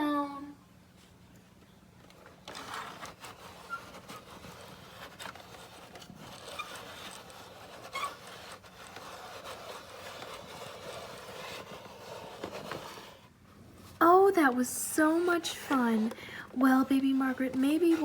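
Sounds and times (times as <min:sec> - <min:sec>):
plastic rubbing and scraping: 0:02.0 - 0:14.6, 0:15.2 - 0:18.0.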